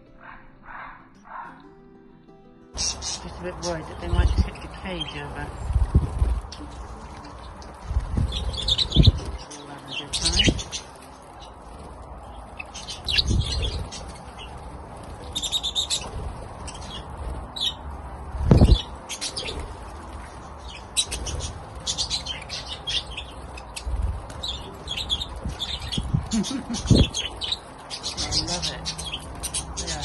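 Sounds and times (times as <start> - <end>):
budgerigars chirping: 2.8 - 17.8, 18.5 - 30.0
wings flapping: 2.8 - 30.0.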